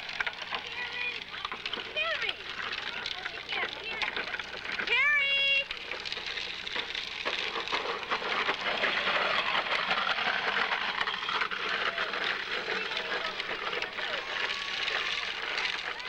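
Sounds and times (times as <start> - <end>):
close rustling and crackling: 0.0 - 16.0.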